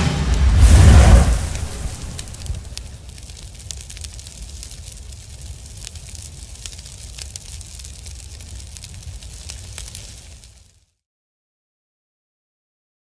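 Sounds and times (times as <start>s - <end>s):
fire crackling: 0.0s - 11.0s
flames rumbling: 0.0s - 11.0s.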